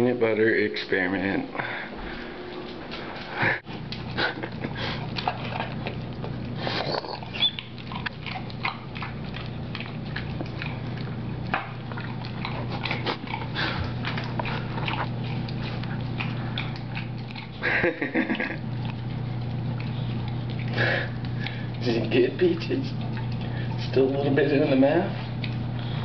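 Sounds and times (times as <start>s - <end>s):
steady low hum: 0.0s - 26.0s
dog sniffing: 1.9s - 17.6s, 18.7s - 24.2s
dog licking and smacking: 3.6s - 26.0s.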